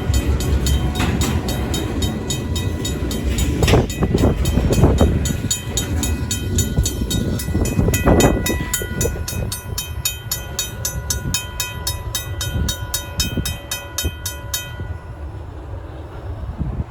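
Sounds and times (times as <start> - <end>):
crossing bell ringing: 0.0 - 15.6
train rumbling: 0.0 - 16.9.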